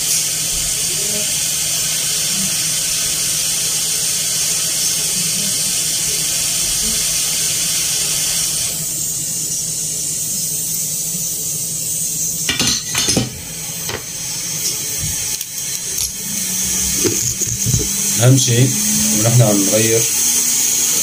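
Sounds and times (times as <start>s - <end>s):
hot-air station hiss and hum: 0.0s - 21.0s.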